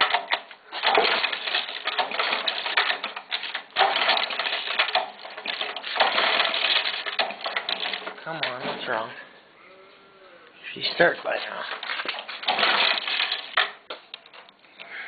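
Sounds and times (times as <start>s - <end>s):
lawn mower engine clattering: 0.0s - 9.2s, 10.8s - 14.6s.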